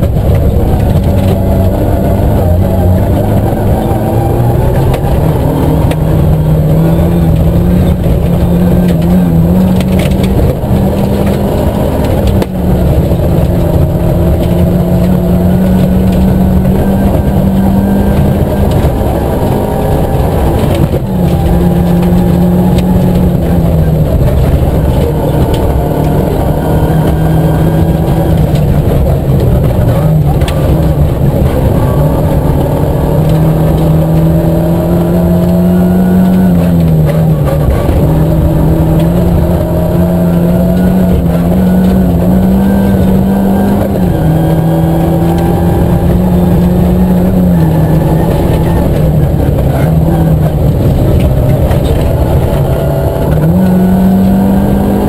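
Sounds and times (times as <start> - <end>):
rally car engine revving: 0.0 - 55.0
tyres rumbling on gravel: 0.0 - 55.0.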